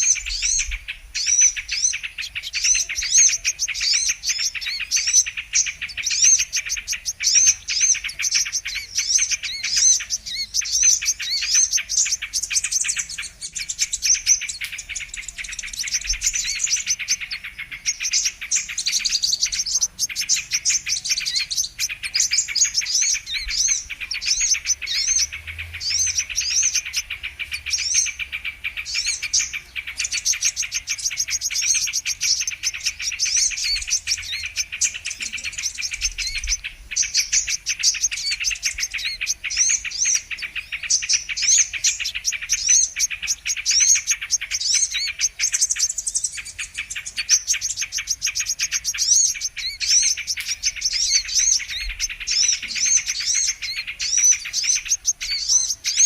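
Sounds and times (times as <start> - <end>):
bird chirps and twittering trills: 0.0 - 56.0.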